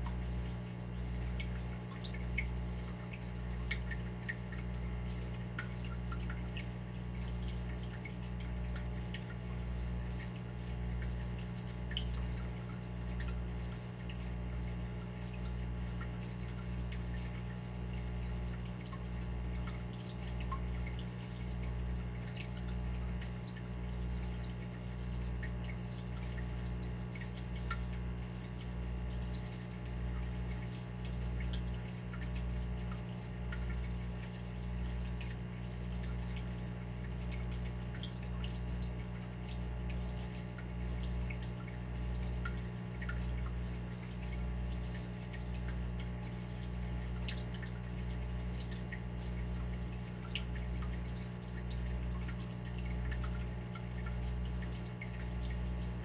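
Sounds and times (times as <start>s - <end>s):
water dripping and trickling: 0.0s - 56.0s.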